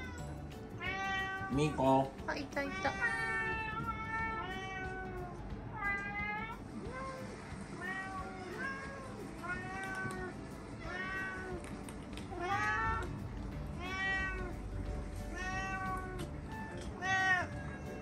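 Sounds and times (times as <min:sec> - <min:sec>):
cat meowing: 0:00.0 - 0:18.0.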